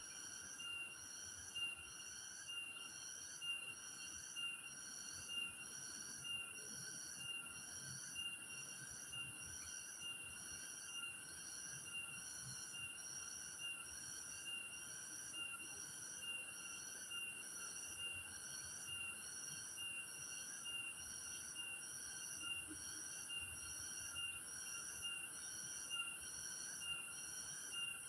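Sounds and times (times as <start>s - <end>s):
pulsing insect call: 0.1s - 28.0s.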